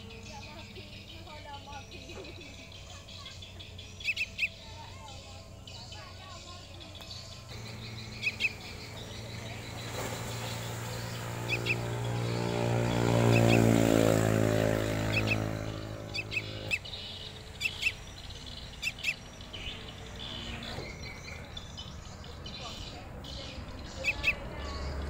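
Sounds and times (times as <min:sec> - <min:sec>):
passing vehicle engine hum: 0:00.0 - 0:25.0
young birds chirping: 0:00.0 - 0:25.0.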